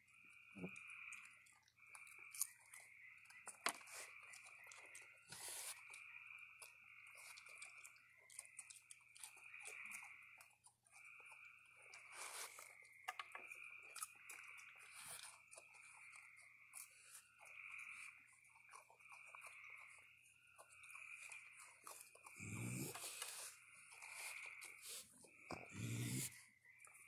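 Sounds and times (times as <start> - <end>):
animals crunching dry food: 0.0 - 27.0.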